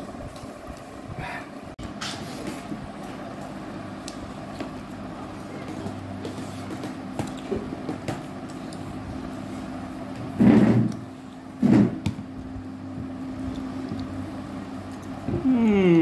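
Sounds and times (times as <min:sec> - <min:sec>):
people eating with hands: 0:00.0 - 0:16.0
steady low hum: 0:00.0 - 0:16.0.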